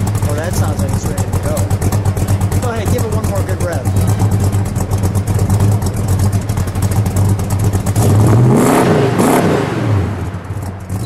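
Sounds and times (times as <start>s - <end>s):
car engine idling: 0.0s - 11.0s
car engine revving: 0.0s - 11.0s.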